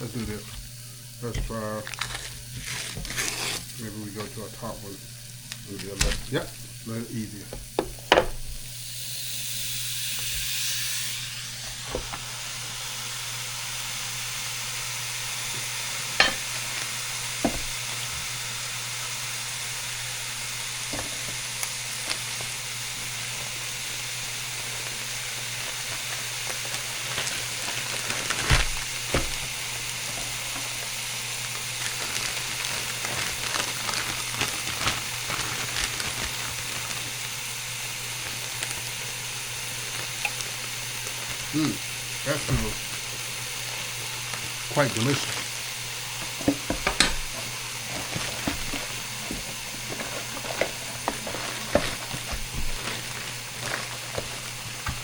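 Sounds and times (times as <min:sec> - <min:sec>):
burger patty sizzling on a grill: 0:00.0 - 0:55.0.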